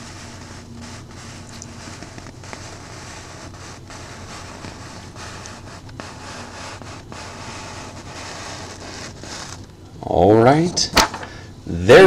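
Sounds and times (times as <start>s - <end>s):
low hum: 0.0s - 10.0s
steady background hiss: 0.0s - 12.0s.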